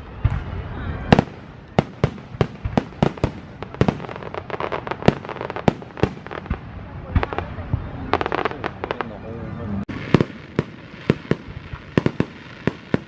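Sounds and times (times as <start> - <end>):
fireworks banging: 0.0 - 9.2, 9.8 - 13.0
fireworks crackling: 0.0 - 13.0.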